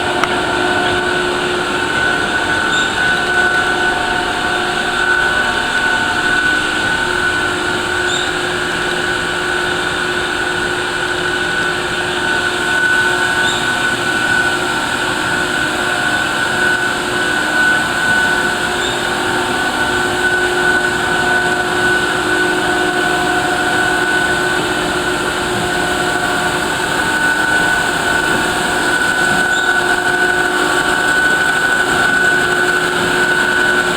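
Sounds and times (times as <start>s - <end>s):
grinder hum and whine: 0.0s - 33.9s.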